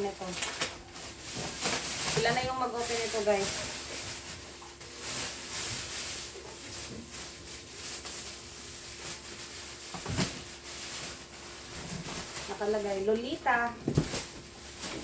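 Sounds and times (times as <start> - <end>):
plastic bag rustling: 0.0 - 15.0.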